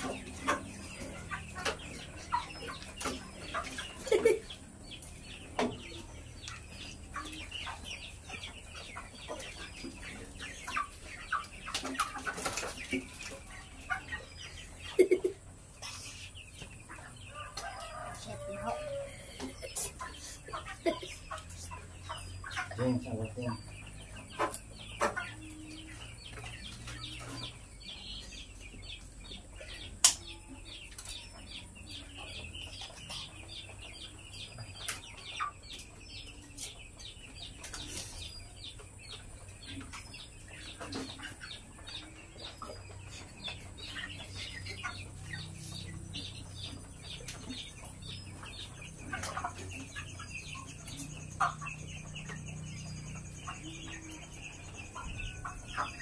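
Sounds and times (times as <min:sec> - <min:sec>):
chickens clucking and peeping: 0:00.0 - 0:56.0.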